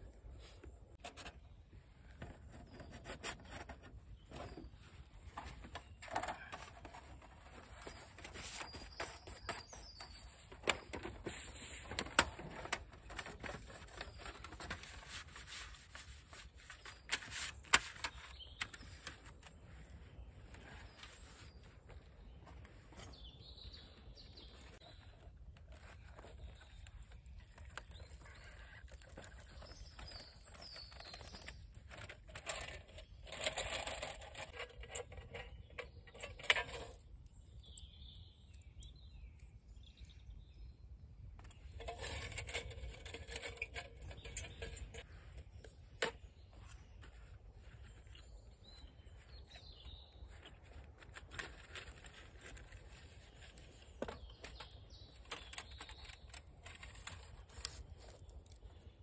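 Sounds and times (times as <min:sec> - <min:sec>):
camping kit rustling and scraping: 0:00.0 - 0:37.8, 0:41.4 - 0:59.0
birds chirping: 0:00.0 - 0:59.0.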